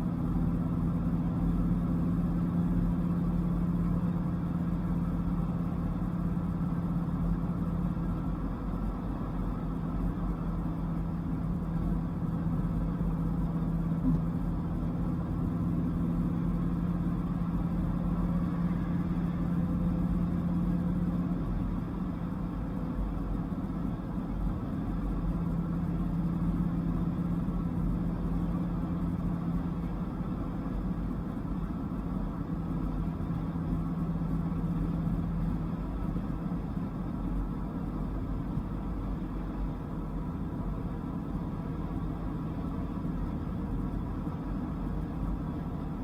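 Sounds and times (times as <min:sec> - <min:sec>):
car engine cruising: 0:00.0 - 0:46.0
road noise rumble: 0:00.0 - 0:46.0.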